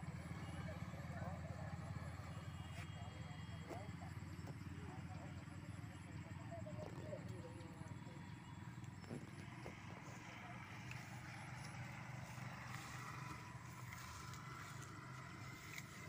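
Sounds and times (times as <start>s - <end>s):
distant road traffic: 0.0s - 16.0s.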